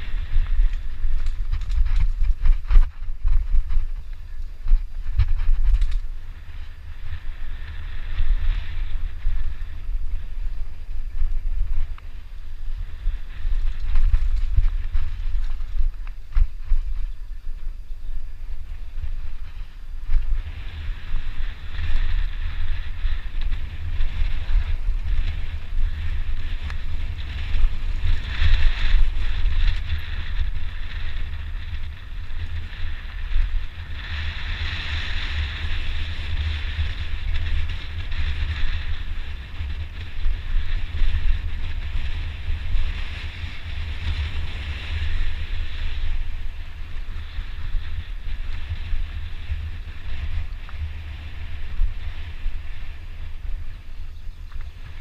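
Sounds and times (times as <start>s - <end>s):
bike rattling on rough trail: 0.0s - 55.0s
wind buffeting microphone: 0.0s - 55.0s.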